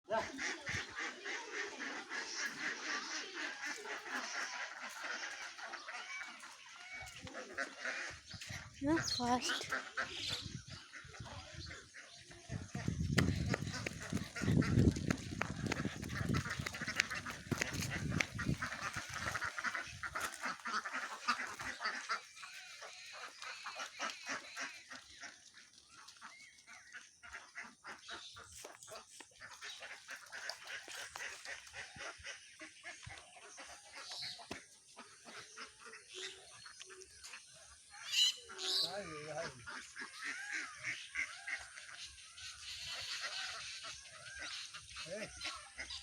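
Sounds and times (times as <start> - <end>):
ducks quacking: 0.1 - 46.0.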